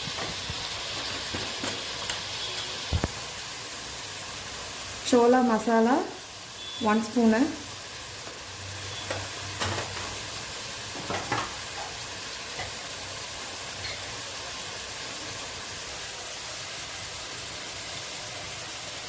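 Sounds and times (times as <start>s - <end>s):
masala sizzling in hot oil: 0.0s - 19.0s.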